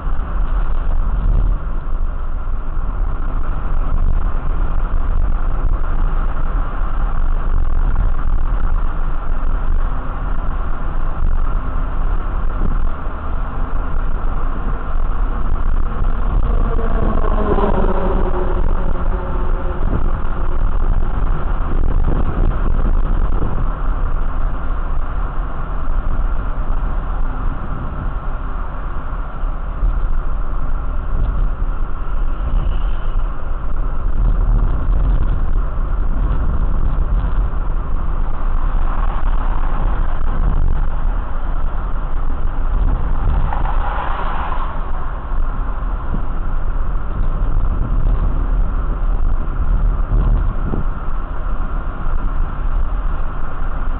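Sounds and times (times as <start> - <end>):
motor vehicle rumbling: 0.0 - 53.9.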